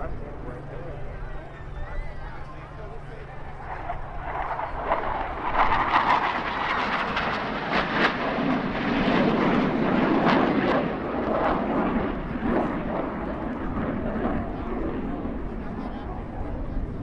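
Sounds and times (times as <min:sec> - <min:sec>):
jets flying over: 0:00.0 - 0:17.0.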